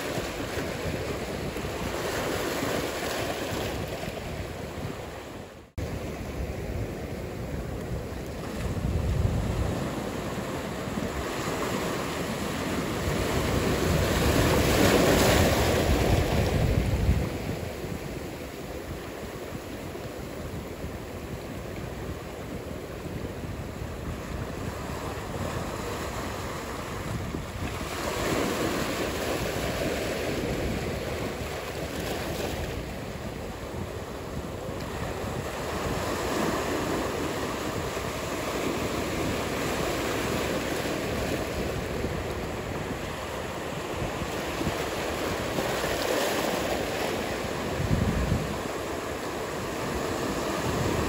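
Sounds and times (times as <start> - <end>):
ocean surf breaking: 0.0 - 51.0
wind on microphone: 0.0 - 51.0.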